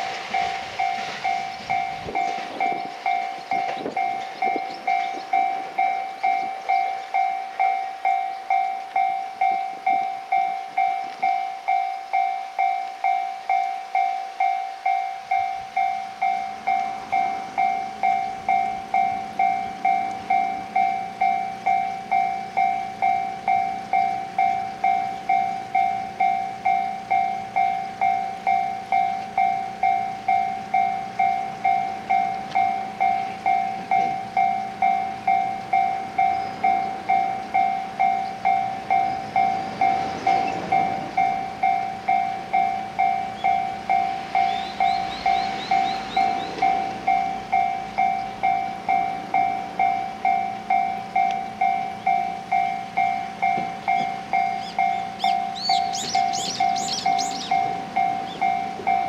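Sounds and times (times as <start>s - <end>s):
electric train running: 0.0s - 59.0s
level crossing warning bell: 0.0s - 59.0s.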